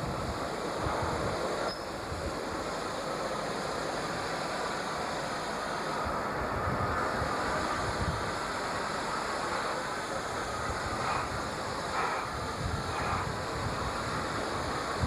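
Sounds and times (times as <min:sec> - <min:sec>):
steam locomotive running: 0:00.0 - 0:15.0.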